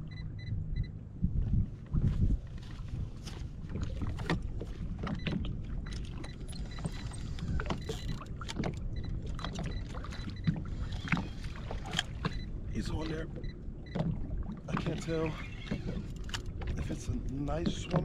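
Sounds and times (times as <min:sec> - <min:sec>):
water lapping against boat hull: 0:00.0 - 0:18.0
wind rumbling on microphone: 0:00.0 - 0:18.0.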